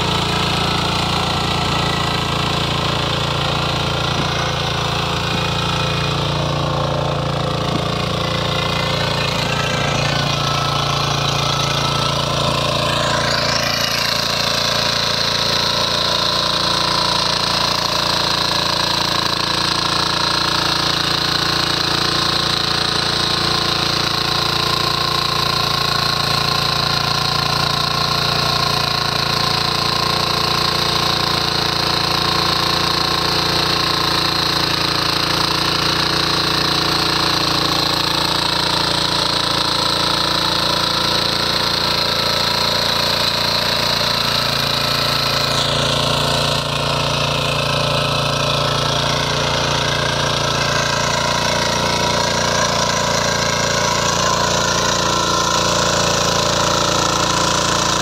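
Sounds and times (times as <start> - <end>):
power weeder engine running: 0.0 - 58.0
tines churning soil: 0.0 - 58.0.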